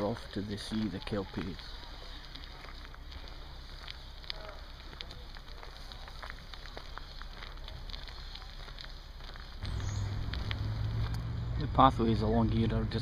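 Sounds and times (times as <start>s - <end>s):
bicycle rolling on tarmac: 0.0s - 13.0s.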